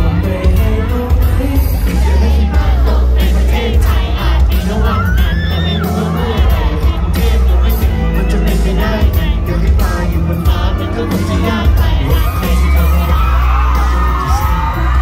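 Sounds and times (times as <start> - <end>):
amplified backing track with bass: 0.0 - 15.0
fans screaming and shouting: 0.0 - 15.0
man singing into a microphone: 0.0 - 15.0.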